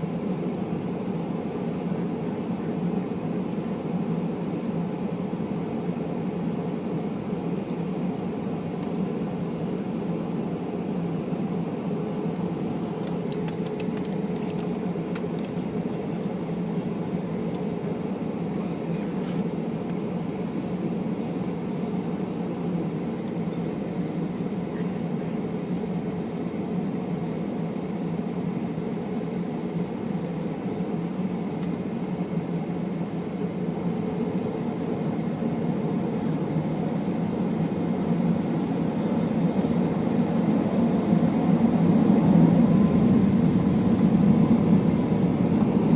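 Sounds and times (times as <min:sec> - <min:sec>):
aircraft cabin engine rumble: 0:00.0 - 0:45.9.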